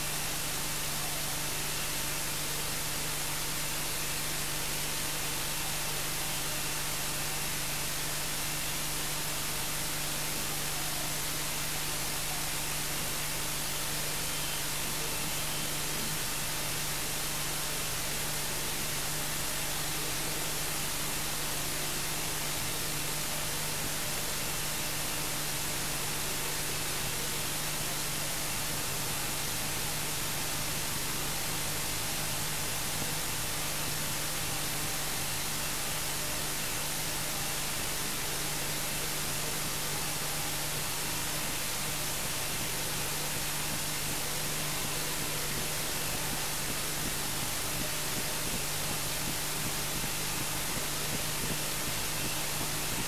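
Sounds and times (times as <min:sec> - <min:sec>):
low electrical hum: 0:00.0 - 0:53.0
recording hiss: 0:00.0 - 0:53.0.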